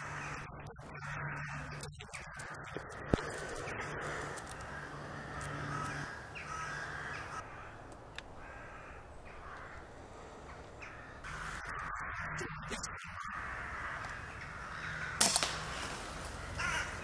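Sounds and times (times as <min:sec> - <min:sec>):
crows cawing: 0:00.0 - 0:17.0.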